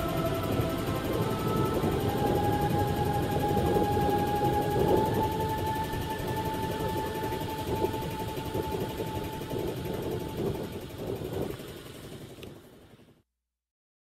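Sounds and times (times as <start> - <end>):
motor rumbling: 0.0 - 12.9
thin steady whine: 0.0 - 13.1.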